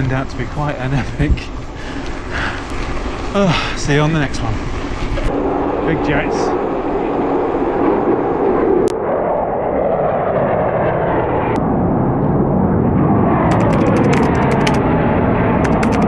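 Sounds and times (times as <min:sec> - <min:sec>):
jet aircraft roar: 0:00.0 - 0:16.0.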